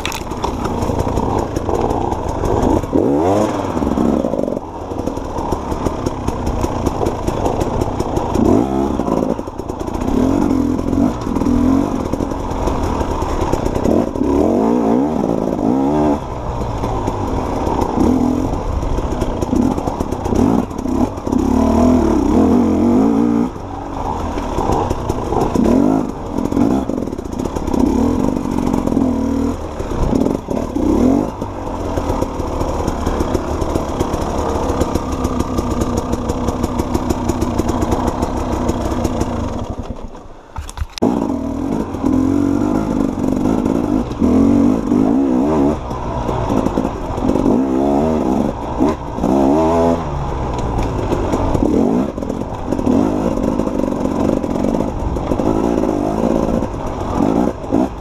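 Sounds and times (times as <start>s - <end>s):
dirt bike engine revving: 0.0s - 39.8s, 41.0s - 58.0s.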